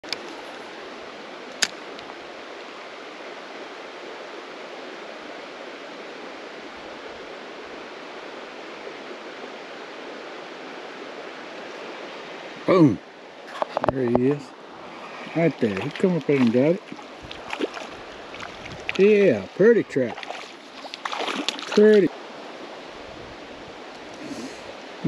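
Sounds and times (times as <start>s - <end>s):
creek flowing: 0.0s - 25.0s.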